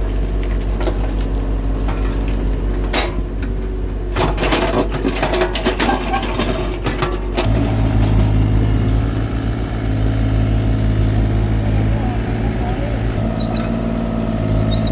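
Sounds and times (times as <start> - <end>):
excavator engine humming: 0.0 - 14.9.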